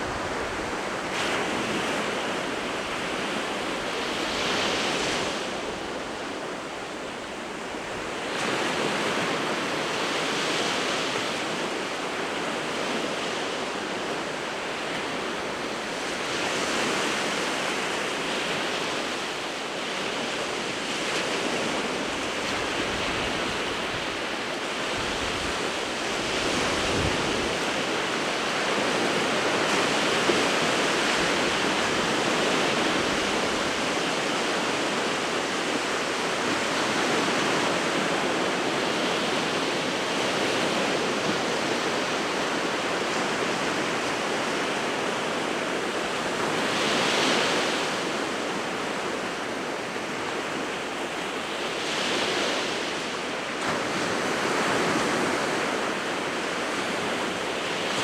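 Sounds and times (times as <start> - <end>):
waves breaking on shore: 0.0 - 58.0
wind: 0.0 - 58.0.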